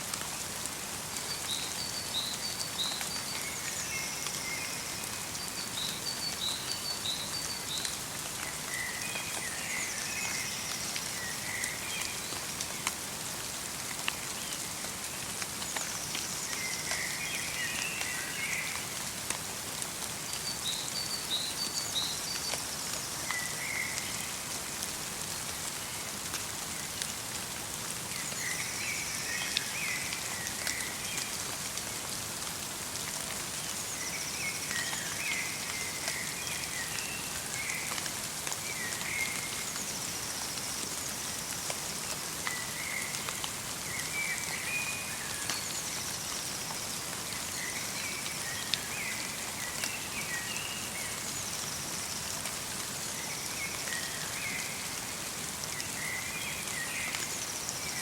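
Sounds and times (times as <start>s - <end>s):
rain and snow pattering: 0.0s - 58.0s.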